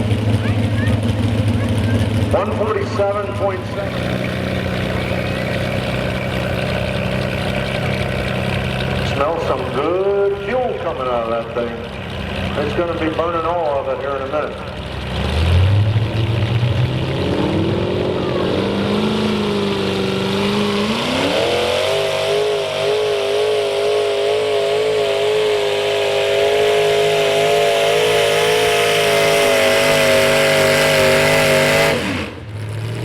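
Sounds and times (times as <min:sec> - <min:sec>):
pulling tractor engines at full throttle: 0:00.0 - 0:33.0.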